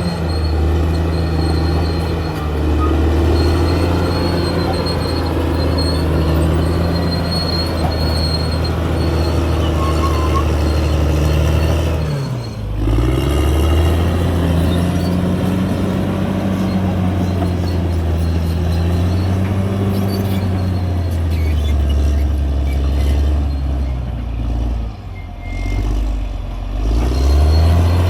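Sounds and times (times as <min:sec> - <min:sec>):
bulldozer diesel engine: 0:00.0 - 0:28.0.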